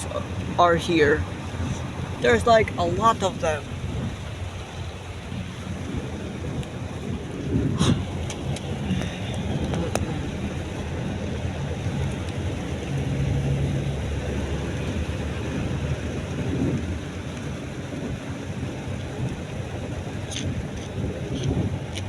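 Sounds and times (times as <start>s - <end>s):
car driving rumble: 0.0s - 22.0s
rain hissing on car and road: 0.0s - 22.0s.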